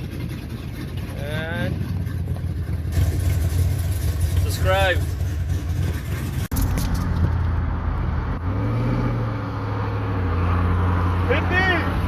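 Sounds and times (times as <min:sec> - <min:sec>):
engine running with low drone: 0:00.0 - 0:12.0.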